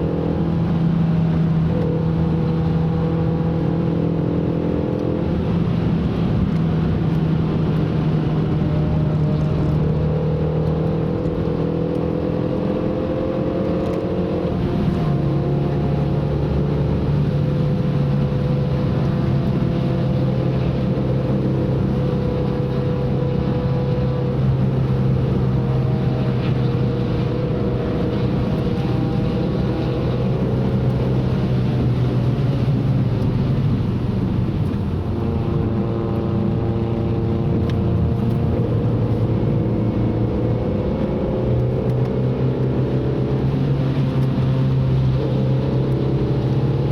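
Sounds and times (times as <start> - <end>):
car engine under load: 0.0 - 46.9
tyre and road noise: 0.0 - 46.9.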